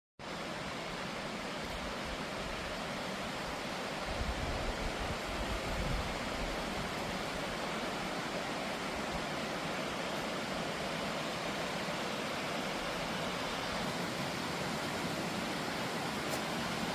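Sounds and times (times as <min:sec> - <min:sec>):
waterfall roaring: 0:00.2 - 0:16.9.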